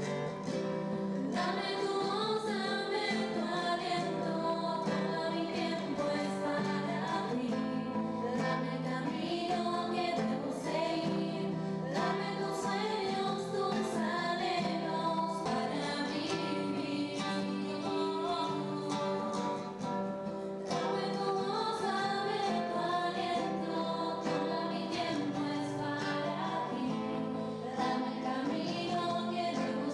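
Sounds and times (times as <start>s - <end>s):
acoustic guitar: 0.0s - 29.9s
women singing together: 0.0s - 29.9s.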